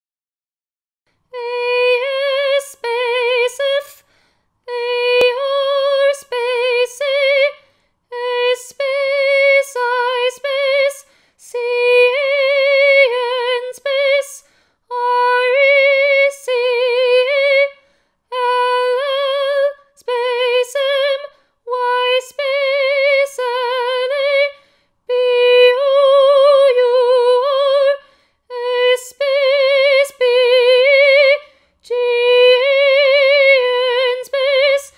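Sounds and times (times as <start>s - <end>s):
woman singing a chant: 1.3s - 4.1s, 4.7s - 34.9s.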